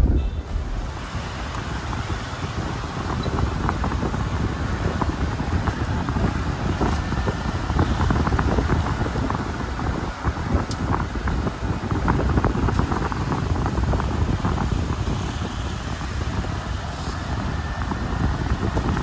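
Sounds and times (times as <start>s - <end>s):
vehicle engine rumble: 0.0s - 19.0s
wind buffeting microphone: 0.0s - 19.0s.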